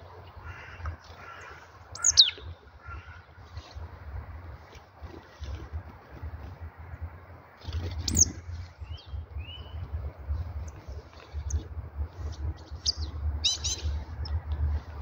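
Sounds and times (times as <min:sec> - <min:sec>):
songbirds chirping: 0:00.0 - 0:06.1, 0:06.9 - 0:15.0
steady low rumble: 0:00.0 - 0:15.0.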